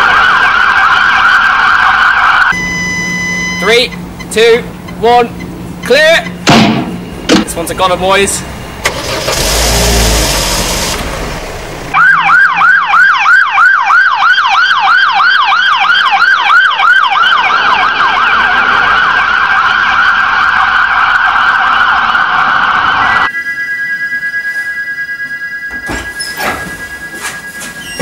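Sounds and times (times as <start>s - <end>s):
emergency vehicle siren: 0.0s - 4.2s, 8.4s - 28.0s.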